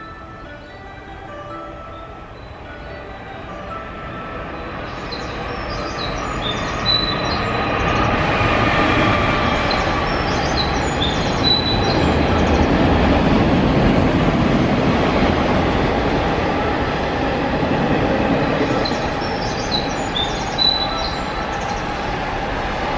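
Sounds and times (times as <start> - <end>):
freight train rumbling past: 0.0 - 22.9.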